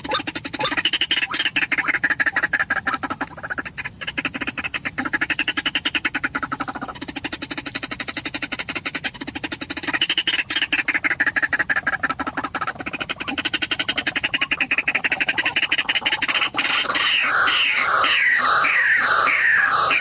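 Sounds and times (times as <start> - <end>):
bird calling with rattling croaks: 0.0 - 20.0.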